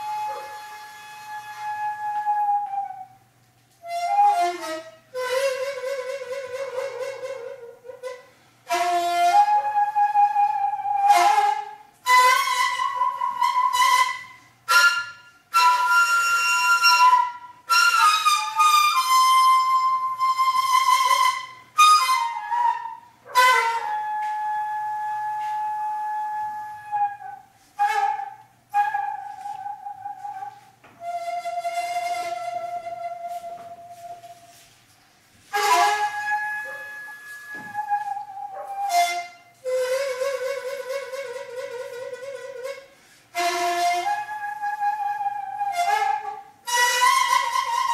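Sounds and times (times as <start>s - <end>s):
bamboo flute slow melody: 0.0s - 47.9s.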